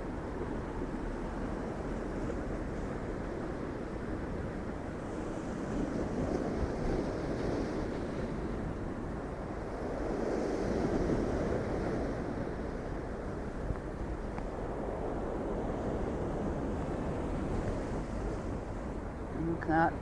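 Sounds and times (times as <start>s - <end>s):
low wind rumble on microphone: 0.0s - 20.0s
waves breaking: 0.0s - 20.0s.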